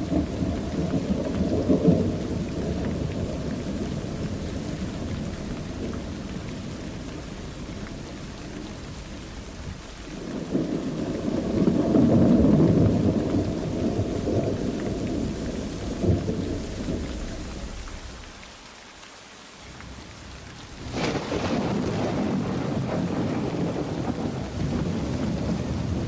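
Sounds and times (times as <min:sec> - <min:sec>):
thunder rolling: 0:00.0 - 0:18.3, 0:19.9 - 0:26.0
steady rain: 0:00.0 - 0:26.0.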